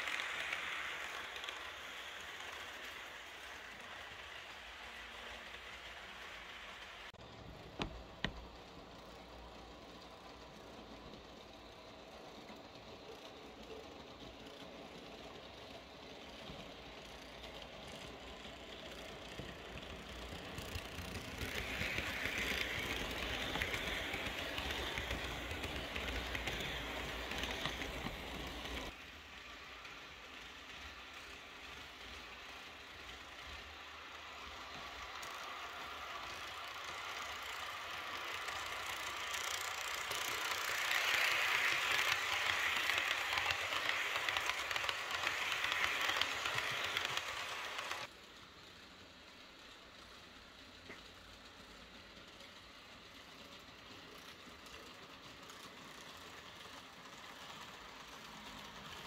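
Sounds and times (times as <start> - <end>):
model train rumbling and rattling: 0.0 - 59.0.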